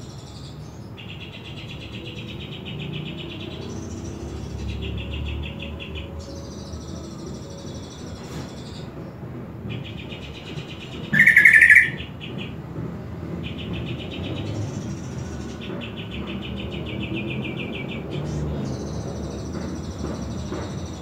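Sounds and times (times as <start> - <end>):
bird song with stuttering trills: 0.0 - 21.0.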